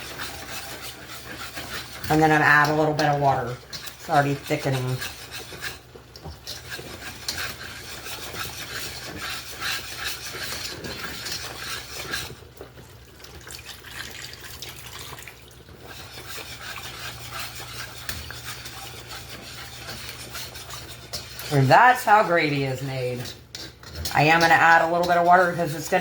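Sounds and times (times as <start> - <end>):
utensil scraping frying pan: 0.0 - 14.0, 15.5 - 26.0.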